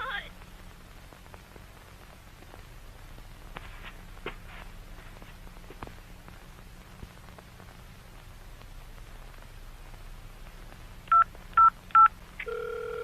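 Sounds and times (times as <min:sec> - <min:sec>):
low hum: 0:00.0 - 0:13.0
static hiss: 0:00.0 - 0:13.0
soft clicks and rustles: 0:00.3 - 0:12.5.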